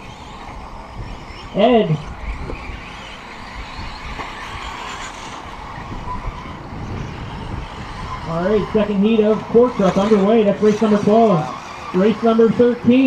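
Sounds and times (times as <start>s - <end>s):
small rc truck motors: 0.0s - 13.0s
tyres on track surface: 2.0s - 13.0s.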